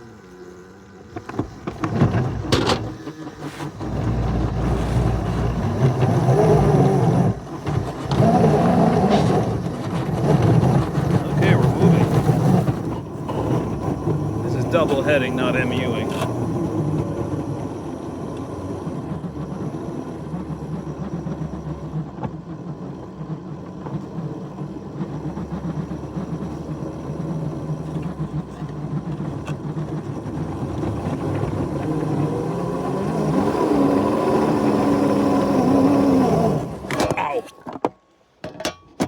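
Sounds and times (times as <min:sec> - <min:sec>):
small train engines straining: 0:00.0 - 0:37.8.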